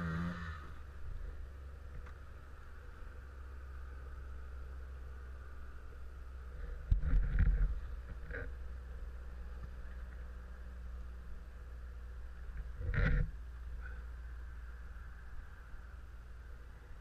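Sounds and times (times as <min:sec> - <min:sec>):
dirt bike engines running: 0:00.0 - 0:17.0.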